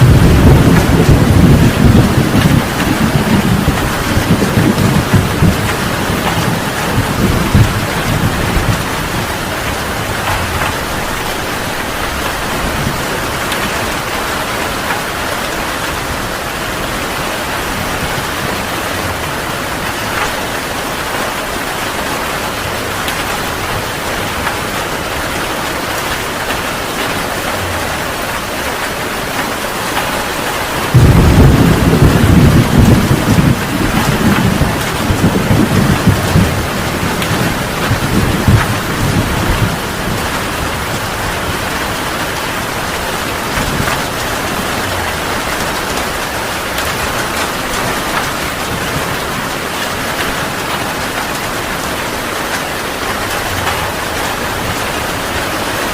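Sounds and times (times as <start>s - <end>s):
heavy rain falling: 0.0s - 55.9s
thunder rumbling: 0.0s - 55.9s.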